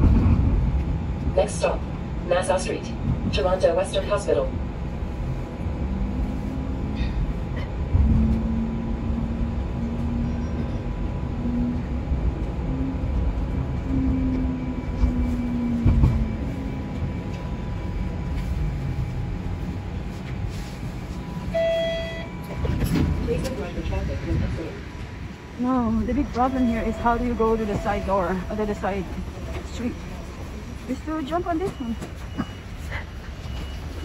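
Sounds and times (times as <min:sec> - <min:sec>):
streetcar wheels rumbling on rails: 0:00.0 - 0:34.0.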